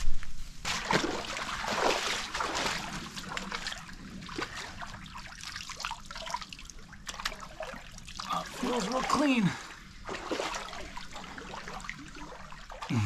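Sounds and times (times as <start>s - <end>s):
creek water sloshing and trickling: 0.6s - 13.0s.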